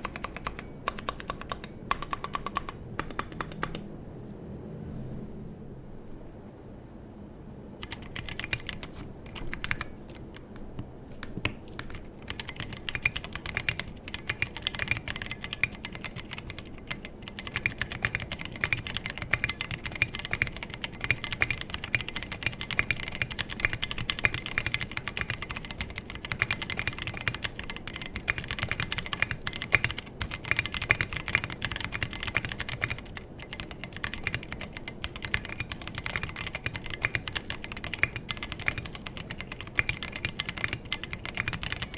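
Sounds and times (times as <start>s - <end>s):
typing on mechanical keyboard: 0.0s - 3.9s, 7.8s - 41.9s.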